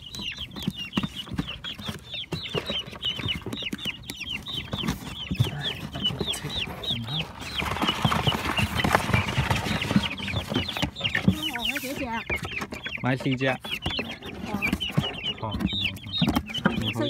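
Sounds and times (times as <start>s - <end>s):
chicks peeping: 0.0s - 17.0s
handling bumps and rustling: 0.1s - 17.0s.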